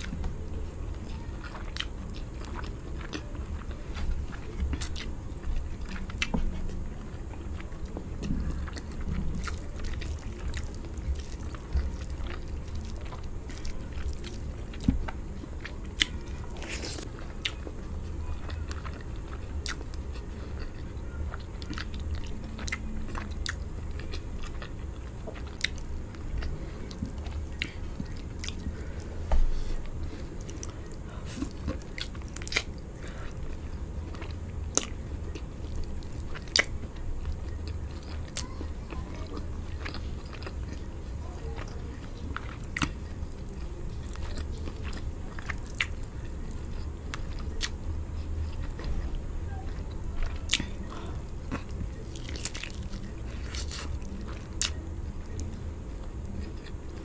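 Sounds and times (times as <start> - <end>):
person chewing and mouth sounds: 0.0 - 57.0
steady low hum: 0.0 - 57.0.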